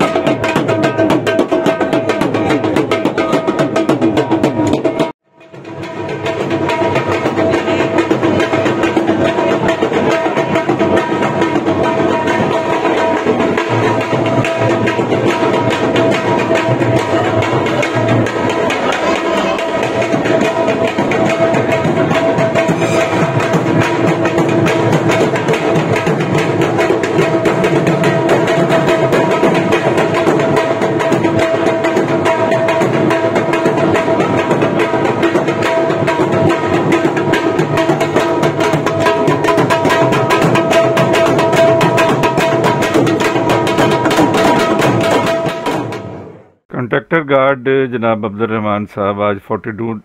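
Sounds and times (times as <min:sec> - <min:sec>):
large drum beaten rapidly: 0:00.0 - 0:46.6.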